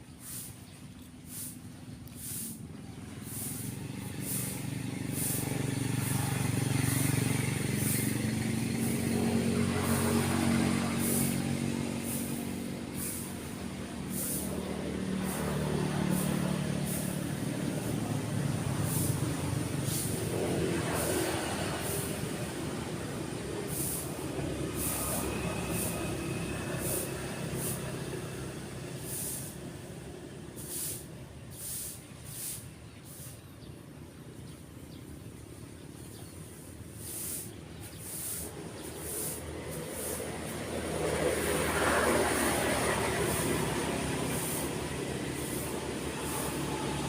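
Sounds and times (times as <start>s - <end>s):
passing vehicle engine: 0.0s - 47.0s.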